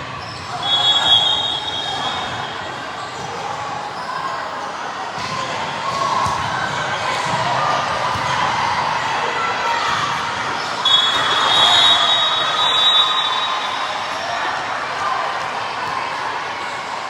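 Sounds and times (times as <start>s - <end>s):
murmur of crowd: 0.0s - 17.0s.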